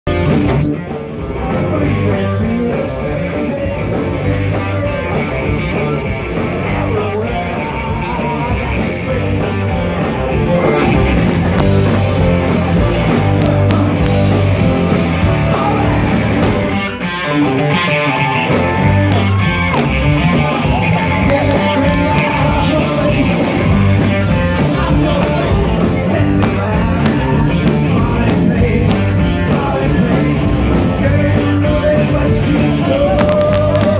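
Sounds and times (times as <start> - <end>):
electric guitar: 0.0 - 33.9
rock band playing live: 0.0 - 33.9.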